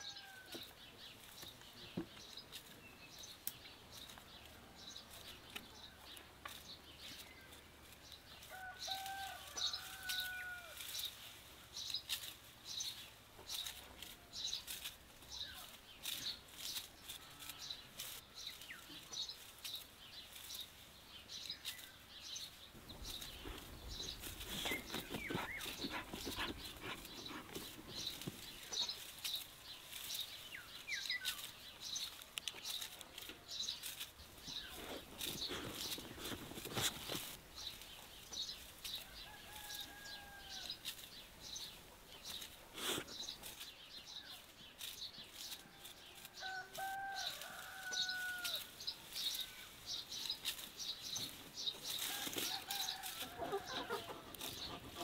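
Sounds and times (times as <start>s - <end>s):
small birds chirping: 0.0s - 55.0s
dog digging in soil: 0.8s - 55.0s.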